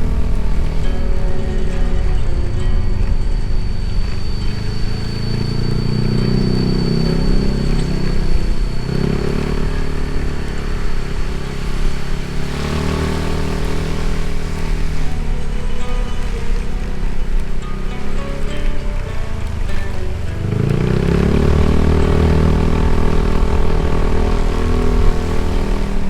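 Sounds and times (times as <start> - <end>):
motorcycle engine running: 0.0 - 26.0
rushing noise: 0.0 - 26.0.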